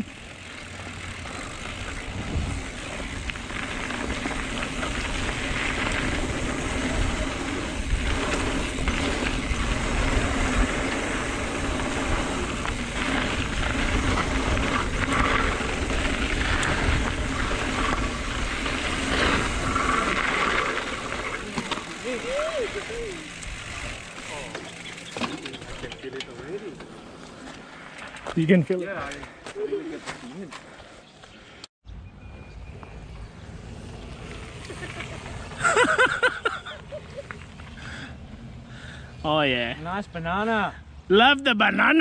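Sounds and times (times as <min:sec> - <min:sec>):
bike jolts: 0:00.0 - 0:31.7, 0:32.9 - 0:40.0
bike tyres rolling on dirt: 0:00.0 - 0:31.7, 0:32.4 - 0:40.5.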